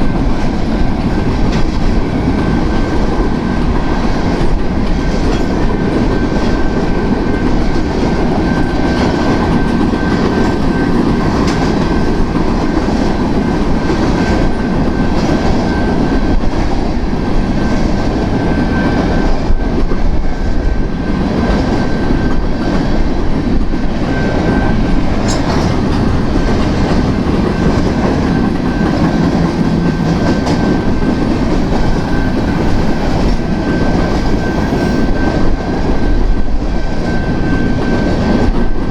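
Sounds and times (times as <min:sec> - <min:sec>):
clickety-clack over rail joints: 0:00.0 - 0:38.9
freight train wheels rumbling: 0:00.0 - 0:38.9
high-pitched whine: 0:00.0 - 0:38.9.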